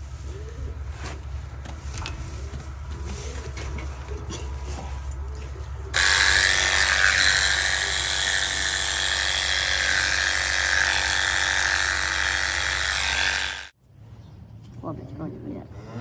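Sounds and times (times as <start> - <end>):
machine whirring hum: 0.0 - 13.8.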